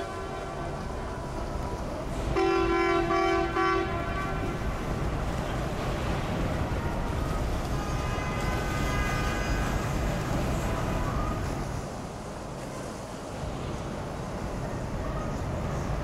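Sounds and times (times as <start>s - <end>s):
boat engines rumbling: 0.0s - 16.0s
water wash: 0.0s - 16.0s.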